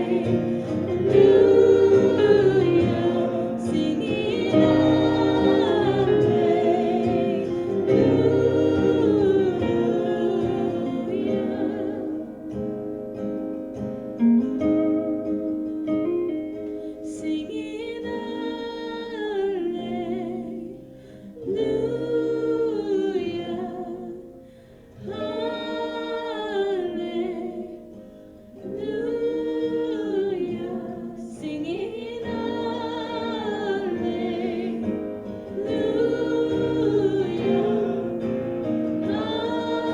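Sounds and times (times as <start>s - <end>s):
group singing worship song: 0.0s - 13.9s, 17.1s - 39.9s
guitar: 0.0s - 39.9s.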